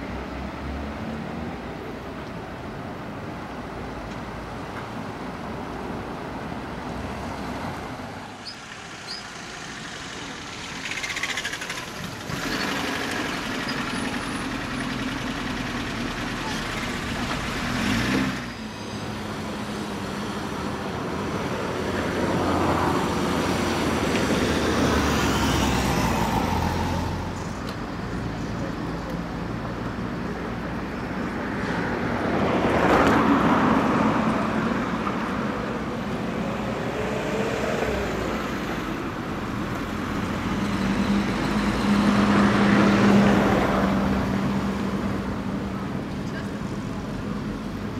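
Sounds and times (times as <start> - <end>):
cars passing: 0.0 - 47.9
engine and tyre hum: 0.0 - 47.9.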